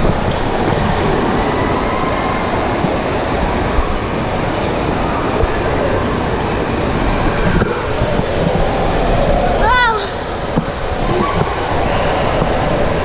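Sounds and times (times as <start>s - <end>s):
faint voices: 0.0s - 13.0s
water rushing around slide raft: 0.0s - 13.0s.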